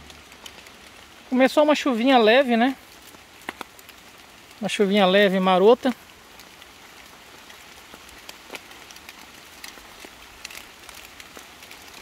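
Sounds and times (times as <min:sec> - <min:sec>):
light rain hissing: 0:00.0 - 0:12.0
raindrops ticking: 0:00.0 - 0:12.0.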